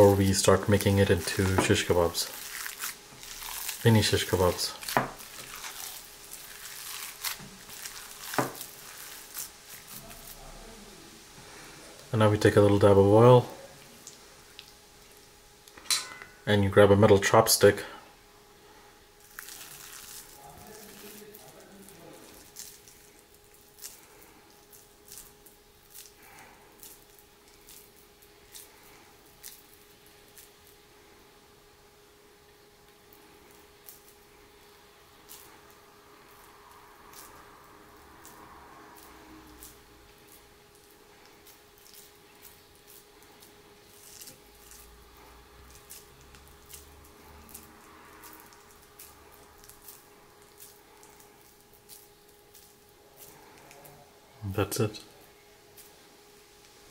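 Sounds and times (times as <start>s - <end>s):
hands squishing ground meat: 0.0s - 15.8s, 19.1s - 56.9s
faint steady hum: 0.0s - 56.9s.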